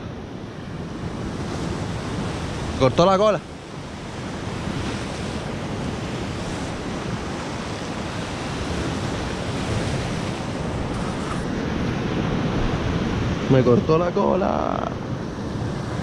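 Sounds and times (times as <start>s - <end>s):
waves breaking on rocky shore: 0.0s - 16.0s
wind buffeting microphone: 0.0s - 16.0s.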